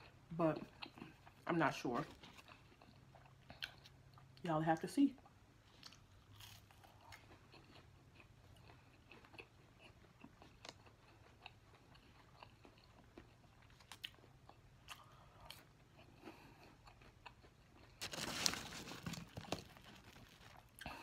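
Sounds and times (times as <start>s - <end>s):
crunchy chewing: 0.0s - 4.4s, 5.6s - 21.0s.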